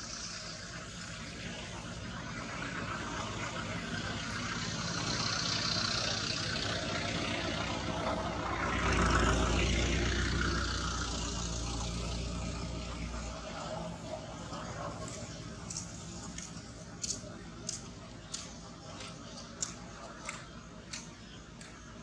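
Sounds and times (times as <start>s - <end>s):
passing vehicle engine: 0.0s - 21.9s
low hum: 0.0s - 22.0s.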